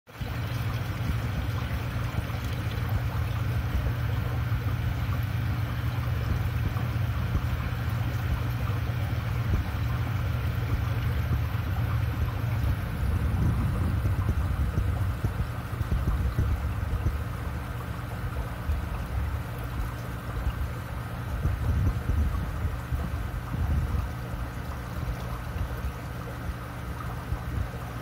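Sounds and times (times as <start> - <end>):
aquarium filter humming: 0.1 - 28.0
water bubbling and trickling: 0.1 - 28.0.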